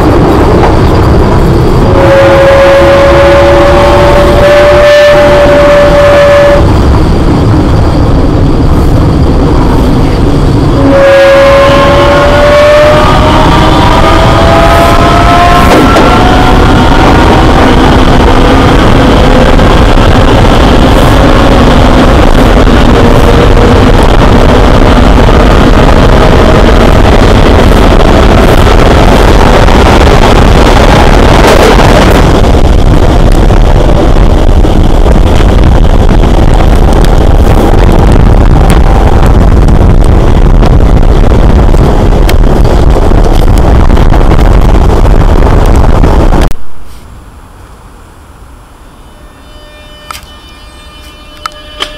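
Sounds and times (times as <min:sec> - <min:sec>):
wind rumble on microphone: 0:00.0 - 0:47.4
low train running noise: 0:00.0 - 0:51.9
train traction motors whining: 0:00.0 - 0:51.9.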